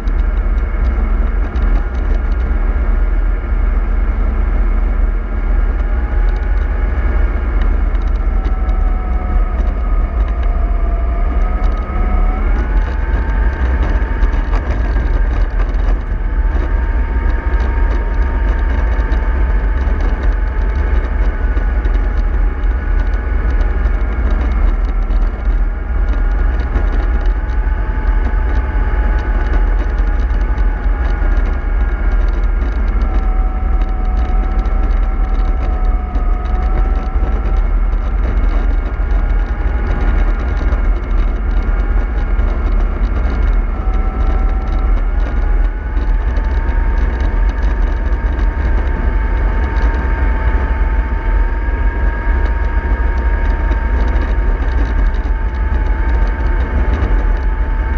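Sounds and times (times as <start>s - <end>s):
bus engine rumble with whine: 0.0s - 57.9s.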